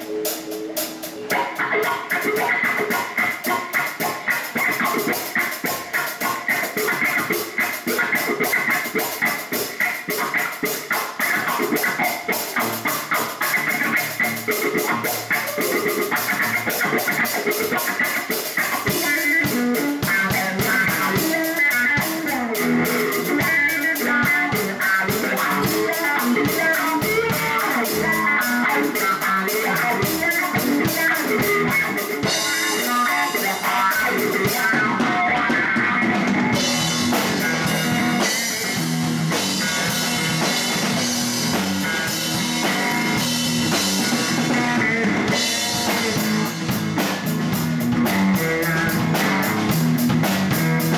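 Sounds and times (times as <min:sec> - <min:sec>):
drum kit: 0:00.0 - 0:50.9
electric guitar lines: 0:00.0 - 0:50.9
electric bass: 0:00.9 - 0:50.9.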